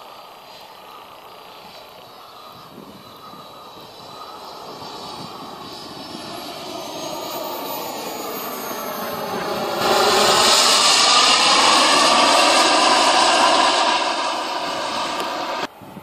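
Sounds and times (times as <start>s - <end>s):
model jet turbine rush: 0.0s - 16.0s.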